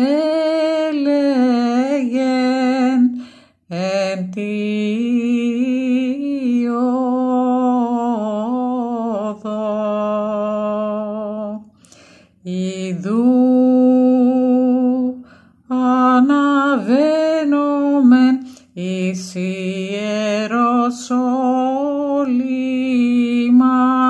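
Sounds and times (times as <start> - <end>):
solo voice chanting a hymn: 0.0 - 11.7, 12.4 - 24.0.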